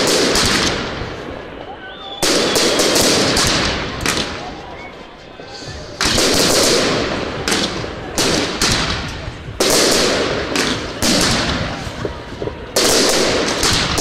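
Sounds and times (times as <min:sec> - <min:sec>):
fireworks bangs: 0:00.0 - 0:14.0
fireworks crackle: 0:00.0 - 0:14.0.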